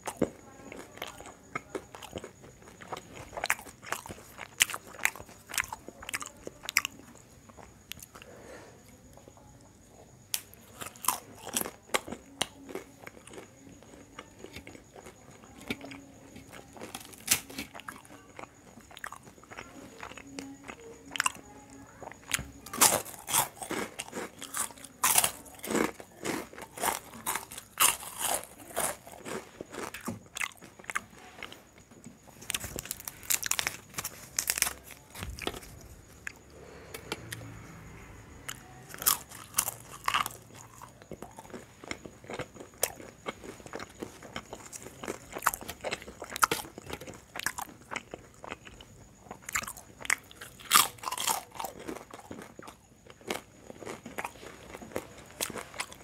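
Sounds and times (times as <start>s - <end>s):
crunching and chewing crisps: 0.0s - 9.2s, 10.3s - 56.0s.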